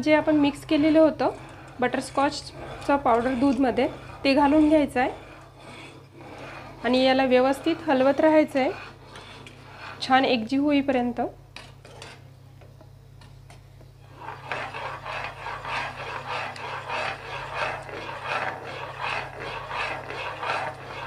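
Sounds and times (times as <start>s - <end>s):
metal ladle scraping a pan: 0.0s - 10.2s, 14.0s - 21.0s.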